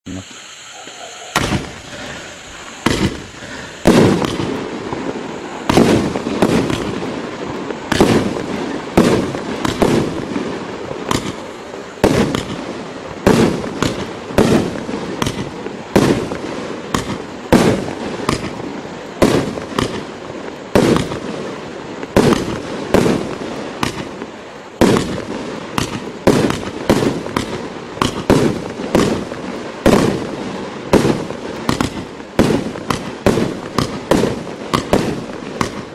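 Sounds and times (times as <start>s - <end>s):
continuous firework noise: 0.1s - 35.9s
firework bangs: 0.8s - 35.9s.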